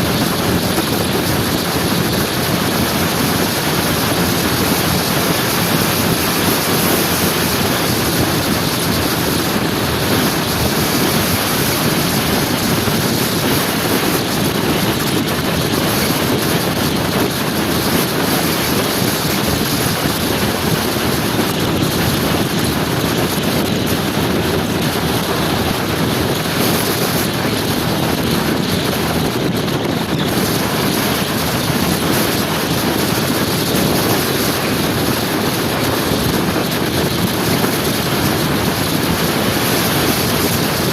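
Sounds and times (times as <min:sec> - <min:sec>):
motor scooter running: 0:00.0 - 0:40.9
wind rushing over microphone: 0:00.0 - 0:40.9.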